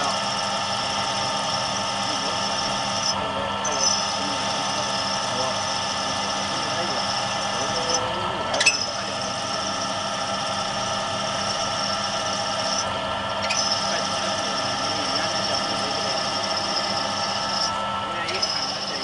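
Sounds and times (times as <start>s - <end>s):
drilling machine whine: 0.0s - 19.0s.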